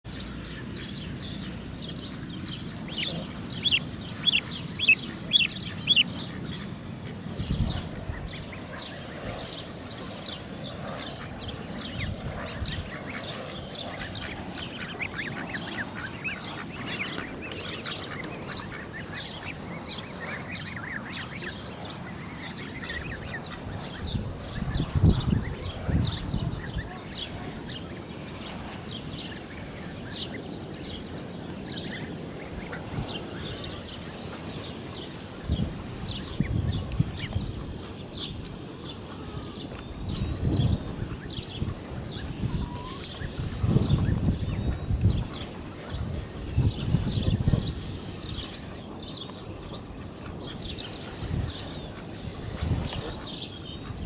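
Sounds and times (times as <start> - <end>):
young geese and ducks peeping: 0.2 - 10.4, 11.0 - 31.1, 31.7 - 54.0.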